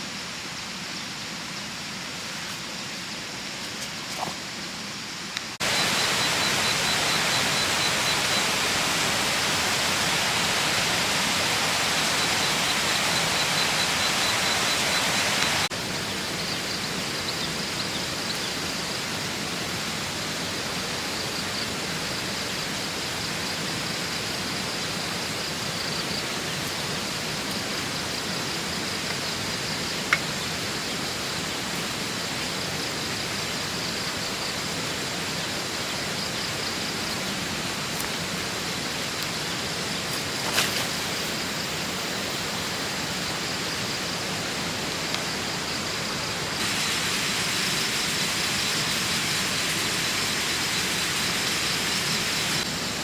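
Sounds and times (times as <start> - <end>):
rushing water: 1.2 - 53.0.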